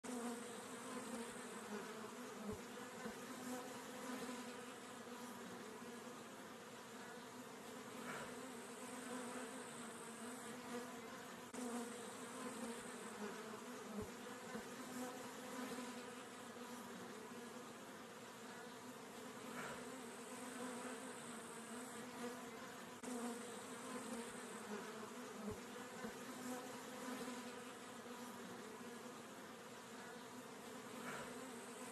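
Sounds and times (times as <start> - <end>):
bees buzzing: 0.1 - 31.9.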